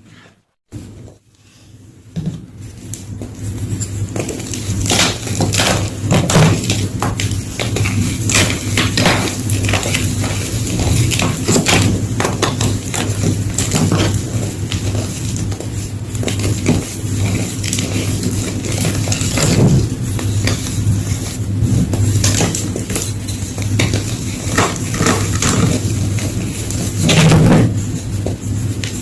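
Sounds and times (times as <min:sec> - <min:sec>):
low steady hum: 0:00.7 - 0:29.0.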